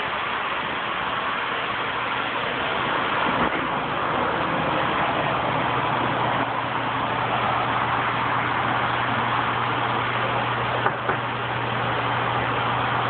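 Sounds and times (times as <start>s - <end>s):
aquarium pump hum: 0.0s - 13.0s
circulating water rushing: 0.0s - 13.0s.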